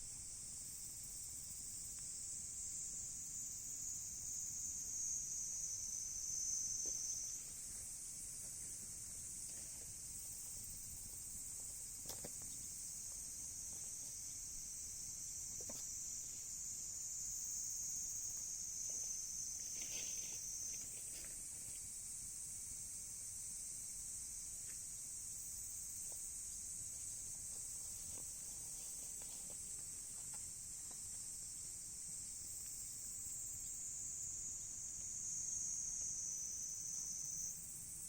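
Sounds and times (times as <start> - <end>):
insects chirping: 0.0 - 38.0.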